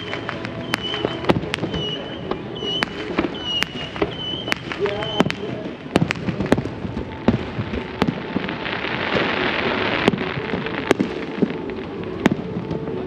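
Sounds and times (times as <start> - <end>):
firework shells bursting: 0.0 - 12.9
dense firework crackling: 0.0 - 13.0.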